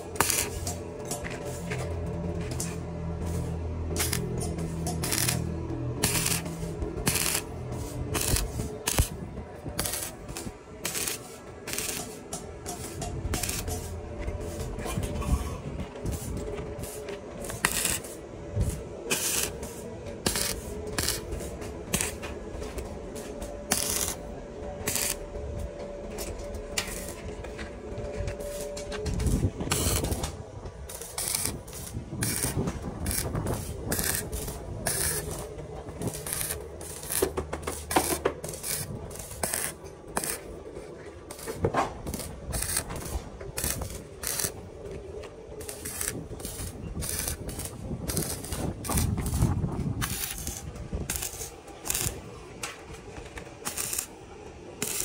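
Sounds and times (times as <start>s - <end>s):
metal being struck and handled: 0.0s - 9.2s, 9.8s - 54.1s
steady hum: 0.0s - 55.0s.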